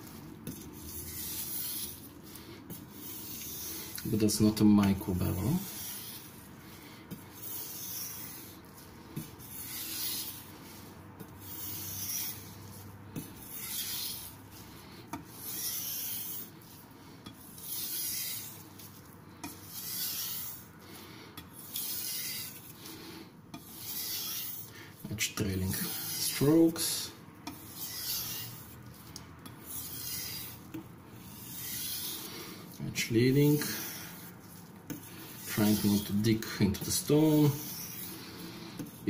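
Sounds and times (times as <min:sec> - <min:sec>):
knife scraping on wet whetstone: 0:00.0 - 0:20.7, 0:21.6 - 0:23.0, 0:23.6 - 0:39.0.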